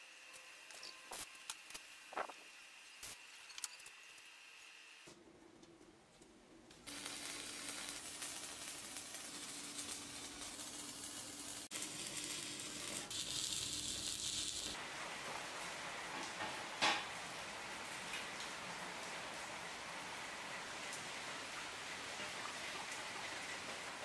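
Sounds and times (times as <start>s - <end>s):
arc welding crackling sizzle: 0.0s - 5.1s, 6.7s - 24.0s.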